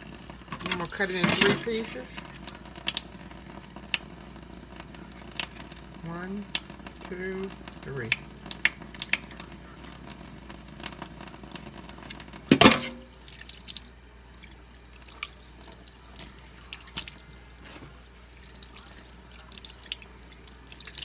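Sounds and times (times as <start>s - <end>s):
water splashing in a sink: 0.0s - 21.0s.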